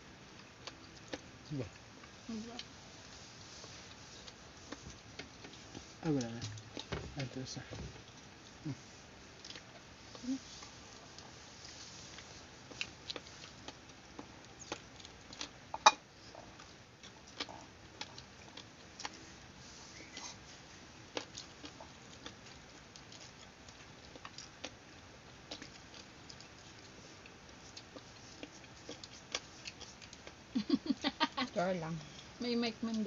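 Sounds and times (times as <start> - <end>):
people chewing: 0.2 - 33.0.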